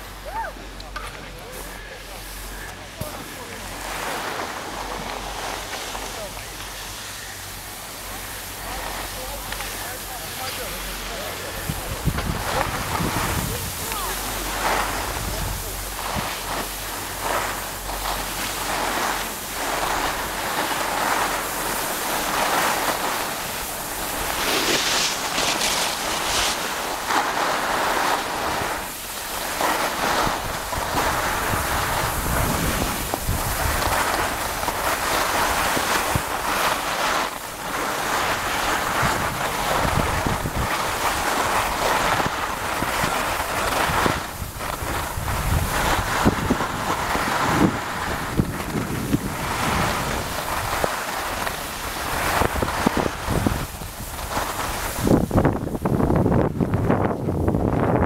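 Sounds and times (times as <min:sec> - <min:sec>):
skis scraping over snow: 0:00.0 - 0:58.0
wind buffeting microphone: 0:10.3 - 0:58.0.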